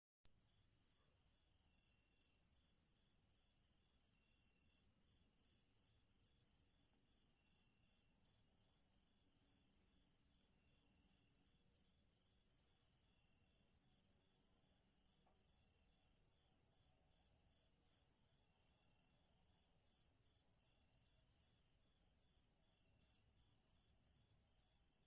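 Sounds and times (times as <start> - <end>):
cricket chirping: 0.4 - 25.0.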